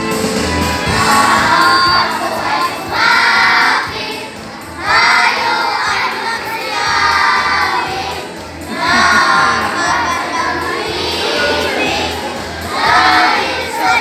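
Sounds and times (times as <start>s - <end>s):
children singing a carol: 0.9s - 14.0s.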